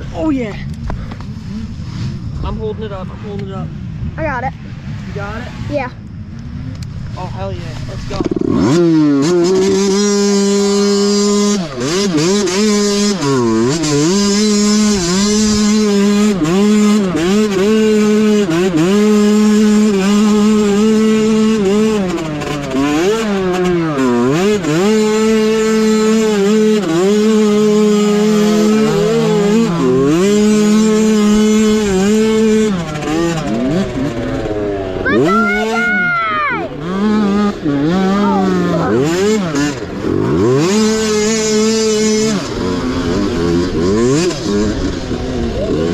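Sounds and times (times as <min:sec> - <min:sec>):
small engine revving: 0:07.2 - 0:45.9.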